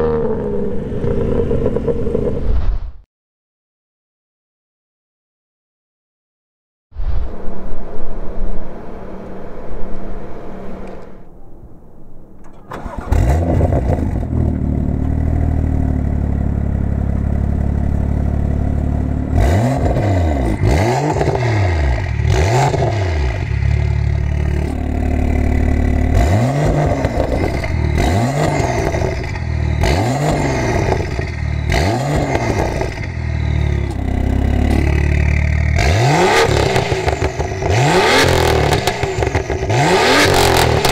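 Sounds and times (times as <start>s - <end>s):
car engine idling and revving: 0.0s - 2.4s, 8.6s - 11.4s, 12.4s - 40.9s.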